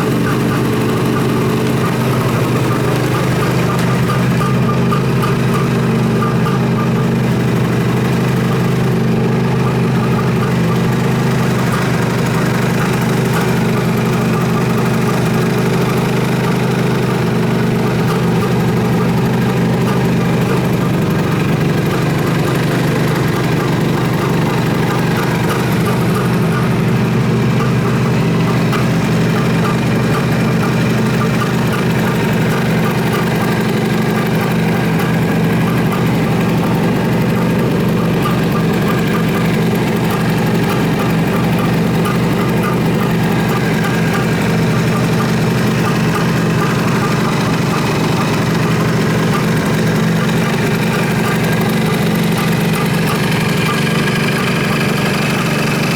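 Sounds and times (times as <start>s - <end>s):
two-stroke engine idling: 0.0s - 55.9s.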